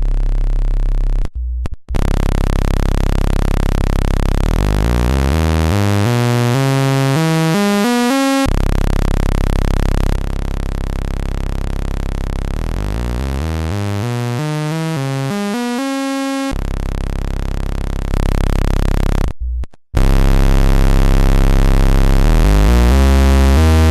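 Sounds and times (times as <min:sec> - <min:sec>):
buzzy synthesizer tone sweeping: 0:01.3 - 0:19.3, 0:20.0 - 0:23.9.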